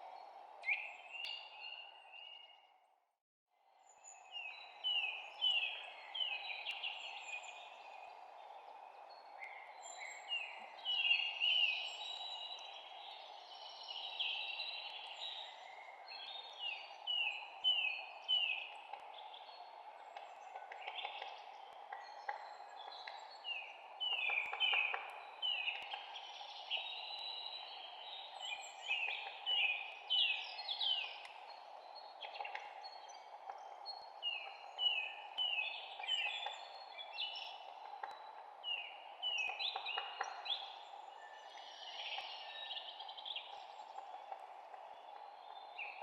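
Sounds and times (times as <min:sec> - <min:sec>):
songbirds chirping and singing: 0:03.9 - 0:46.0.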